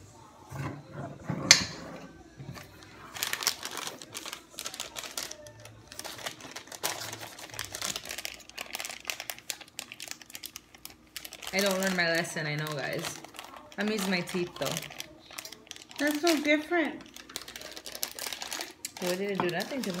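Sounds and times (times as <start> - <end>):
plastic pouch crinkling: 2.7 - 20.0.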